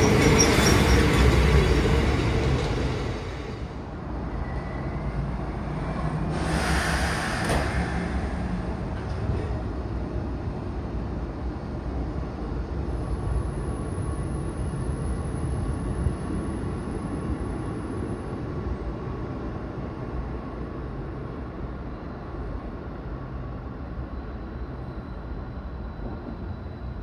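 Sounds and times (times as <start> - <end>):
electric train rumbling on rails: 0.0 - 27.0.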